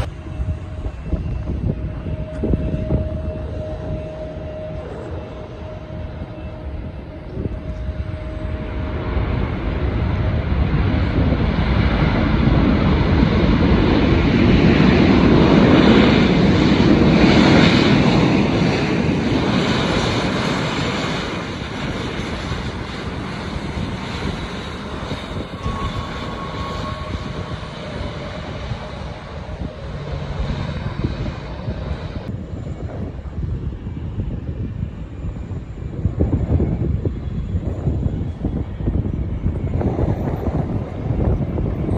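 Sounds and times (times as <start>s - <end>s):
airliner engines passing: 0.0s - 41.9s.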